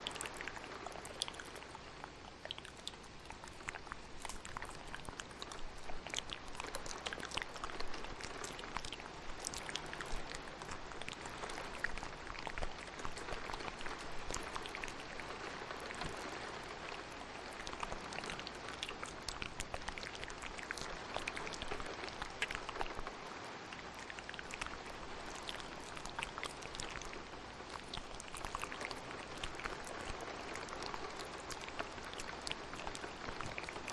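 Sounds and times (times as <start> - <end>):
wet mouth clicks and pops: 0.0 - 23.1, 23.7 - 33.9
steady rain: 0.0 - 33.9.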